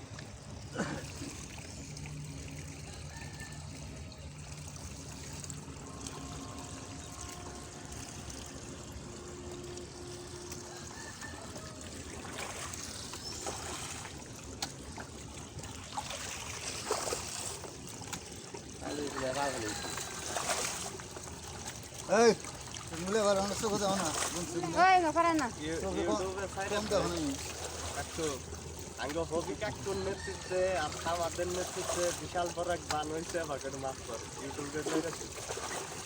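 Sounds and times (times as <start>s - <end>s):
water splashes: 0.0s - 36.0s
water trickling: 0.0s - 36.0s.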